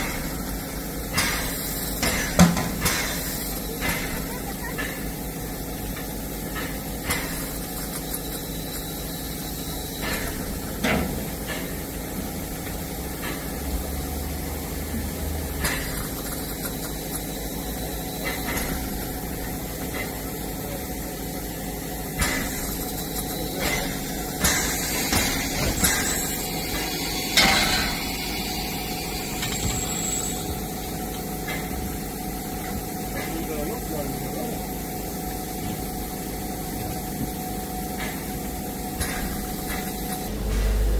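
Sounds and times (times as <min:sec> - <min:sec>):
steam locomotive hissing: 0:00.0 - 0:40.9.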